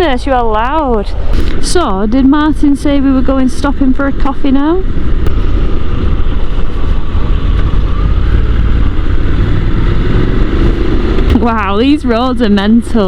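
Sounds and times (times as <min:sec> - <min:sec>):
motorcycle engine drone: 0:00.0 - 0:13.0
wind rush on microphone: 0:00.0 - 0:13.0.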